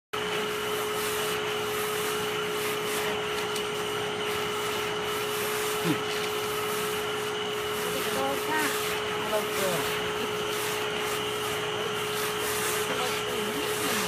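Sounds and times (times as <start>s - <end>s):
vacuum cleaner whining: 0.2s - 14.0s.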